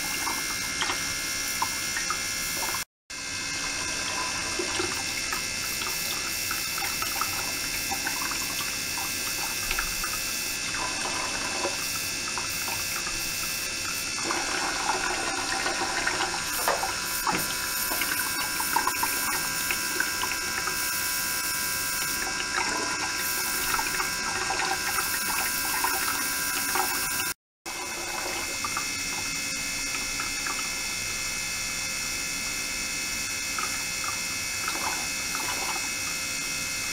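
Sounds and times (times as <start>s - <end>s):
water churning in a tank: 0.0s - 36.9s.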